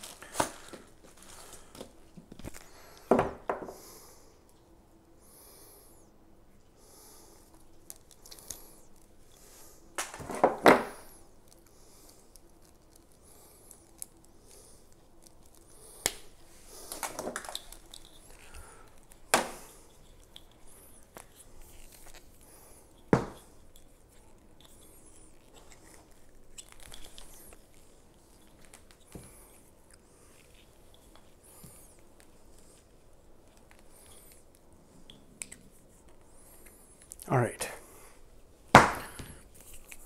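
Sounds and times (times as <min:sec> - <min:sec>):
cable rustling: 0:00.0 - 0:03.1, 0:07.5 - 0:37.2, 0:38.2 - 0:40.0.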